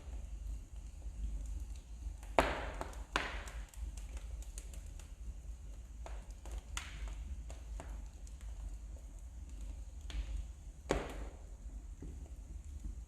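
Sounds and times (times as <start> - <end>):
steady low hum: 0.0 - 13.0
wood fire crackling and popping: 0.0 - 13.0.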